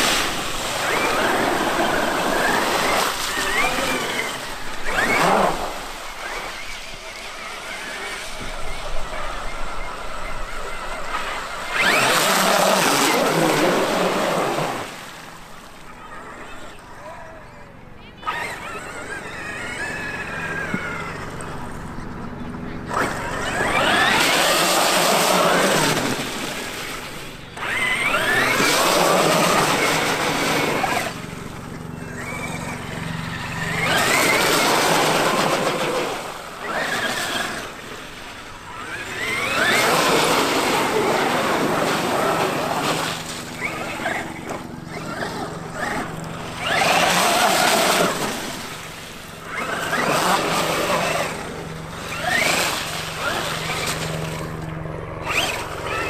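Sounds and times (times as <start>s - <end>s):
electric motor whine: 0.0s - 17.2s, 18.0s - 56.0s.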